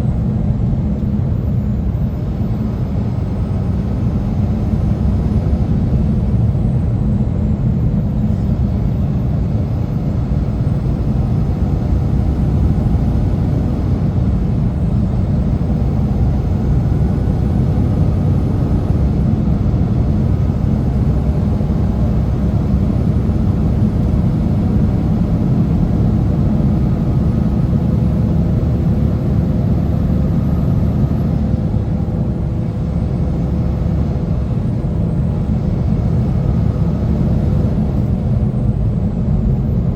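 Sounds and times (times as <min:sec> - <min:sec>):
road rumble: 0:00.0 - 0:39.9
truck diesel engine drone: 0:00.0 - 0:39.9.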